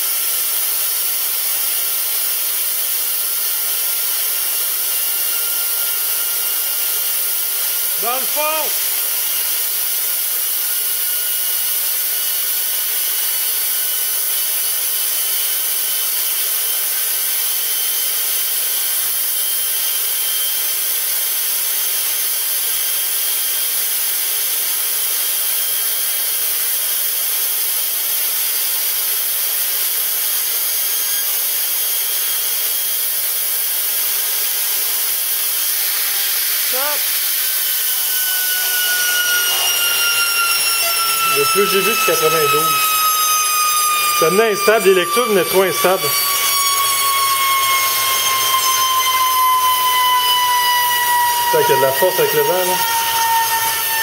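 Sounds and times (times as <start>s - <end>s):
high whining rotor: 0.0s - 23.7s, 24.3s - 54.0s.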